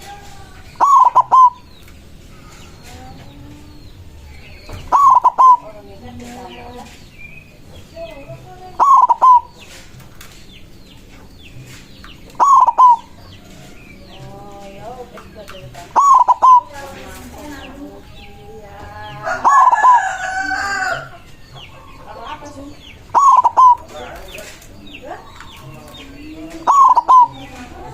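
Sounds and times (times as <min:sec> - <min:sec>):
dove cooing: 0:00.0 - 0:01.7, 0:02.4 - 0:07.0, 0:08.0 - 0:10.0, 0:12.2 - 0:22.0, 0:23.0 - 0:27.9
faint bird calls: 0:00.0 - 0:10.0, 0:11.5 - 0:27.9.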